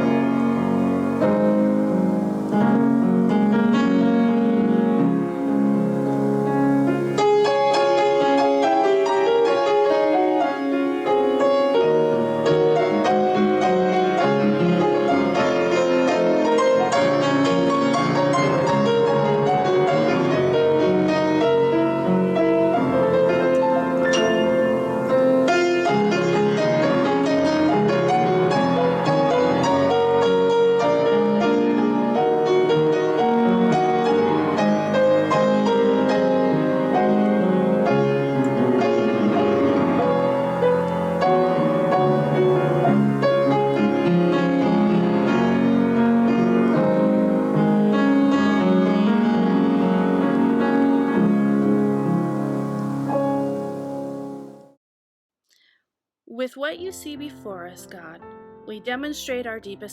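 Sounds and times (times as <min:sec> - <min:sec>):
piano music: 0:00.0 - 0:54.8, 0:56.3 - 0:59.9.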